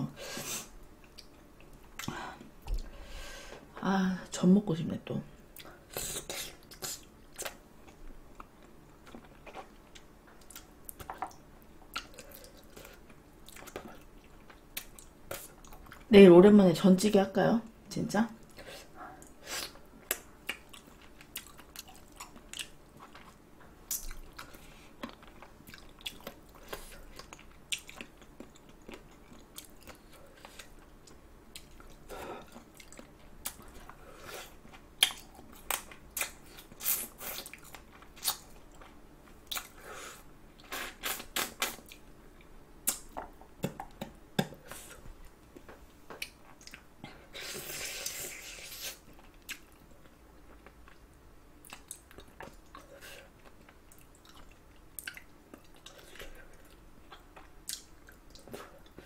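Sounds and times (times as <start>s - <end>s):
person chewing: 5.6s - 16.1s, 18.5s - 59.0s.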